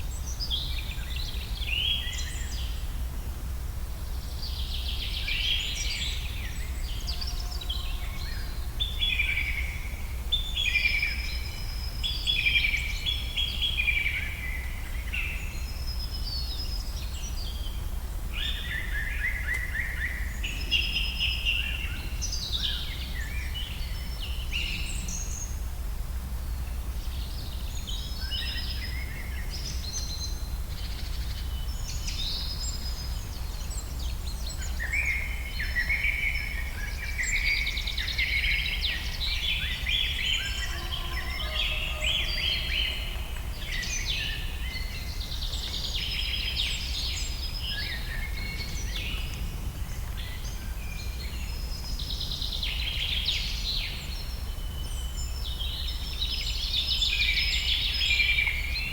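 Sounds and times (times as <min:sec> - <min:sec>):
songbirds singing: 0:00.0 - 0:03.4, 0:04.0 - 0:25.8, 0:26.4 - 0:58.9.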